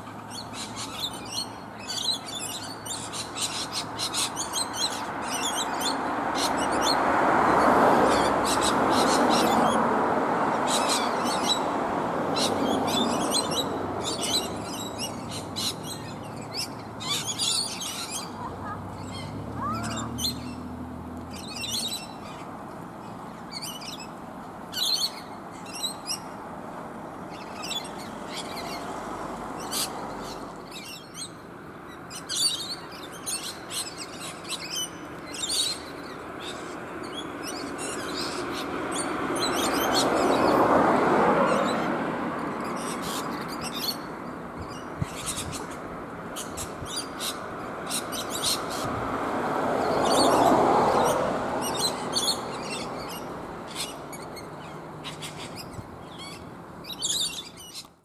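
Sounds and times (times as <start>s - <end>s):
lorikeets chattering: 0.0s - 7.0s, 7.6s - 9.8s, 10.6s - 26.4s, 29.6s - 40.6s, 42.6s - 48.9s, 49.8s - 57.9s.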